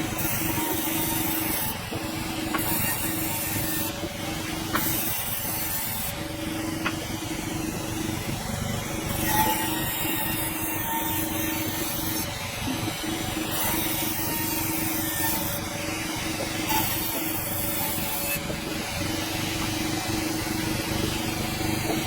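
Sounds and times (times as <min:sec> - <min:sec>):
sawmill machine hum: 0:00.0 - 0:22.0.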